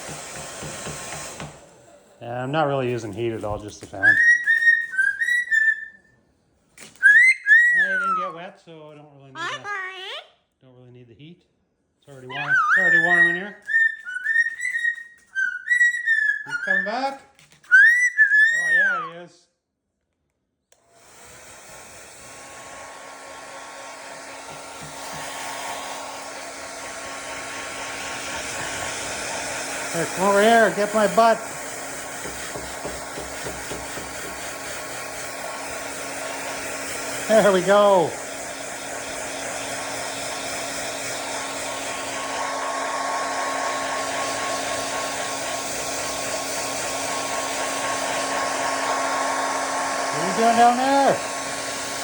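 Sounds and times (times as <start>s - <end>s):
hair dryer blowing: 0.0s - 5.8s, 6.8s - 8.3s, 12.2s - 17.1s, 17.7s - 19.0s, 20.8s - 52.0s.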